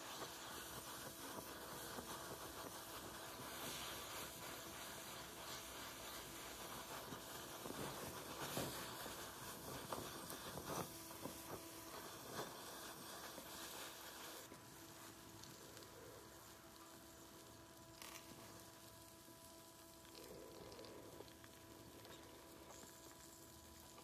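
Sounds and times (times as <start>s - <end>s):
small crackles and pops: 0.0s - 24.0s
torch flame hissing: 0.0s - 24.0s.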